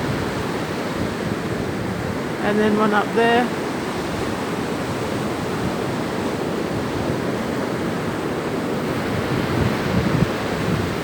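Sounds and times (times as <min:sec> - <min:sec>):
ocean surf washing onto beach: 0:00.0 - 0:11.0
wind rumbling on microphone: 0:00.0 - 0:11.0.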